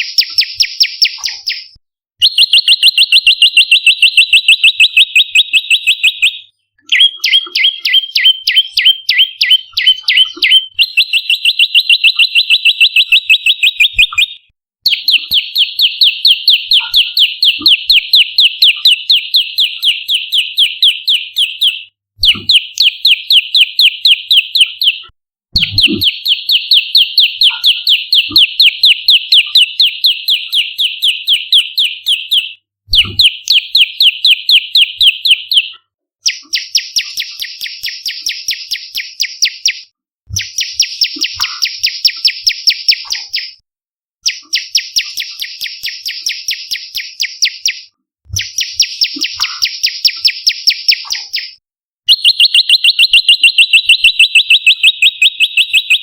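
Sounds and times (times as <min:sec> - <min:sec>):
bird calling sharp chirps: 0:00.0 - 0:43.6, 0:44.2 - 0:56.0.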